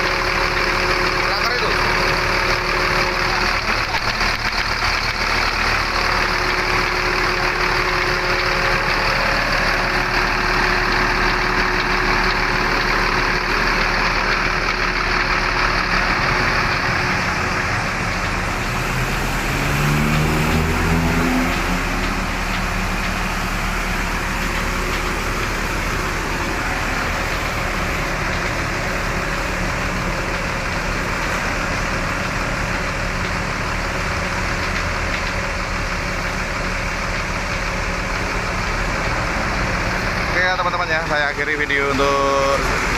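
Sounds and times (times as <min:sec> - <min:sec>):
bus engine and road noise: 0:00.0 - 0:42.9
stepped rising tones: 0:00.0 - 0:42.9.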